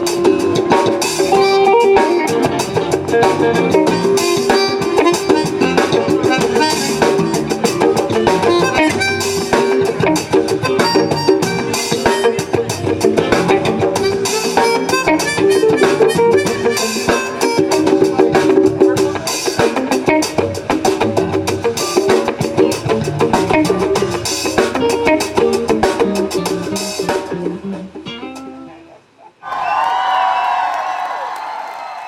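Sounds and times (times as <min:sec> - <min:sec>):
drum kit: 0:00.0 - 0:28.6
guitar: 0:00.0 - 0:29.2
live funk band: 0:00.0 - 0:29.2.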